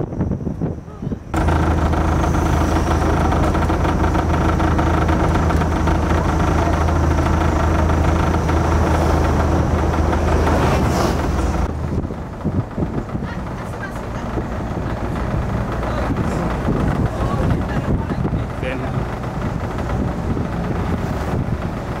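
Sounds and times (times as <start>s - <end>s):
bus engine hum: 0.0s - 22.0s
road and wind noise: 0.0s - 22.0s.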